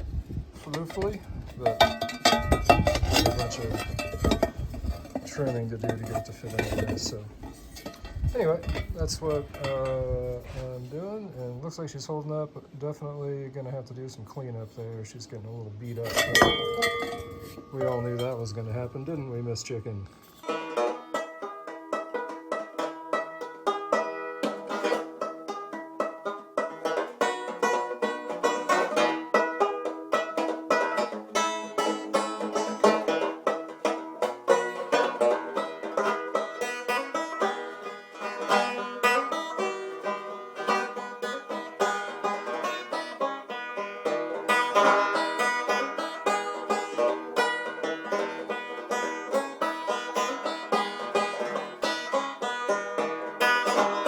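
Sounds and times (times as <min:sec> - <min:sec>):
bluegrass banjo picking: 0:00.0 - 0:54.0.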